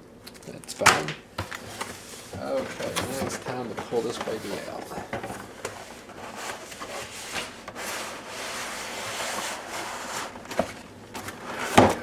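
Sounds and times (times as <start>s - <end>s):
packaging rubbing and scraping: 1.4s - 12.0s.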